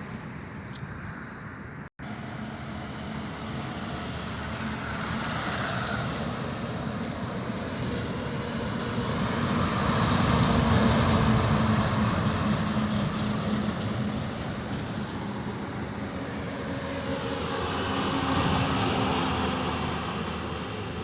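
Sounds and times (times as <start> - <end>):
heavy truck engine and tyres: 0.0 - 21.0.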